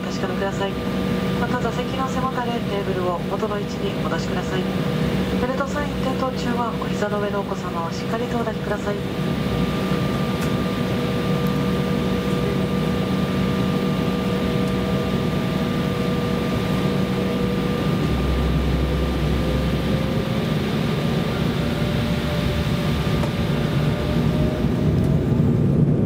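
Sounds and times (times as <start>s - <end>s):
jet engines whining and humming: 0.0s - 26.0s
low rumble: 0.0s - 26.0s.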